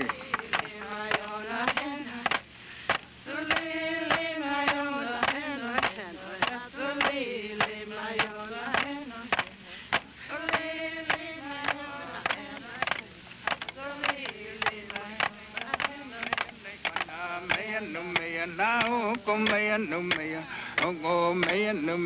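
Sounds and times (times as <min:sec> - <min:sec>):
sharp percussive knocks: 0:00.0 - 0:21.7
voices chanting a song: 0:00.0 - 0:22.0.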